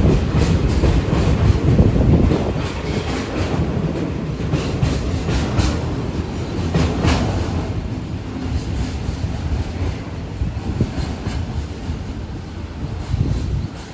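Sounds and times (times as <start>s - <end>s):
wheels clacking over rail joints: 0.0s - 12.3s
train wheels rumbling: 0.0s - 13.9s.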